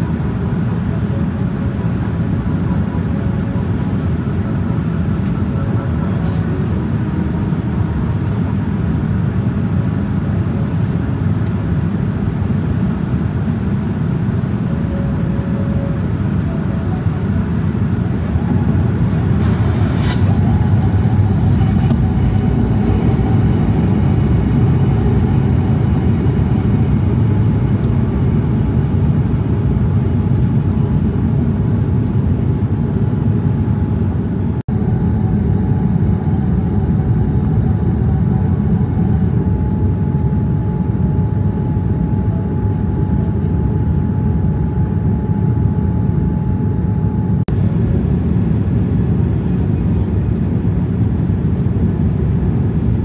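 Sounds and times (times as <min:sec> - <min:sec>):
airliner cabin noise in flight: 0:00.0 - 0:53.0.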